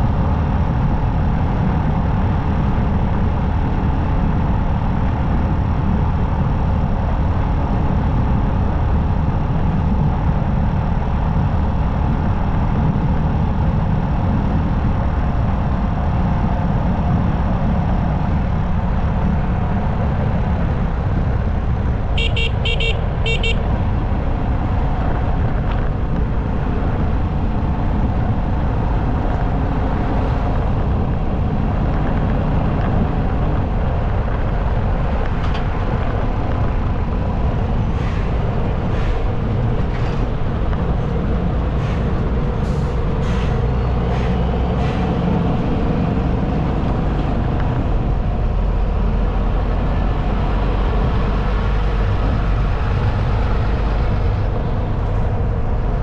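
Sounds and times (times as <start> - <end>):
motorcycle engine and tyres: 0.0 - 56.0
wind buffeting microphone: 0.0 - 56.0.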